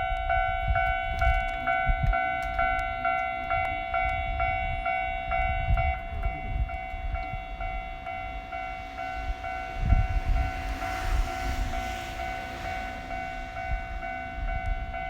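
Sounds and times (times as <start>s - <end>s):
level-crossing warning bell: 0.0s - 15.0s
train rumbling: 0.0s - 15.0s.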